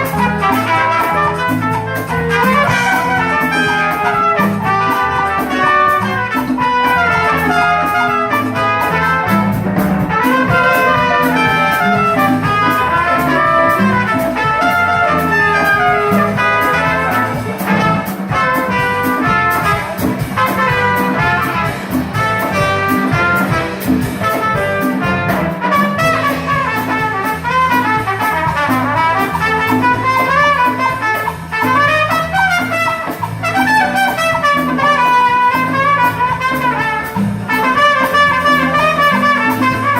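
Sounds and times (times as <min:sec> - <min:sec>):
repeating bass line: 0:00.0 - 0:39.9
steady beat: 0:00.0 - 0:39.9
trumpet playing jazz melody: 0:00.0 - 0:39.9.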